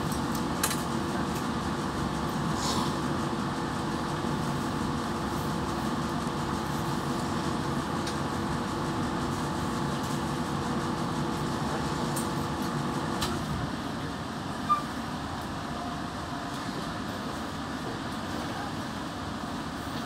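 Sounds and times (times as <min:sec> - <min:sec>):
train carriage rumble and hum: 0:00.0 - 0:20.0.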